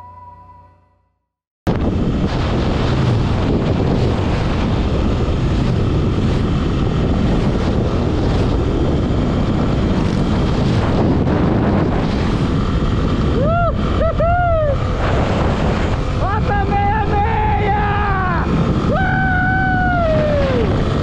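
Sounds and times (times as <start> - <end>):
motorcycle engine running: 1.7 - 21.0
wind buffeting microphone: 1.7 - 21.0.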